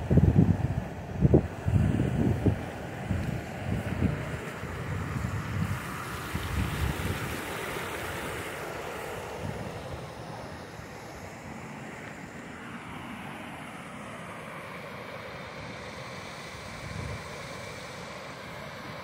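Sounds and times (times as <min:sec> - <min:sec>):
creek and waterfall rushing: 0:01.5 - 0:19.0.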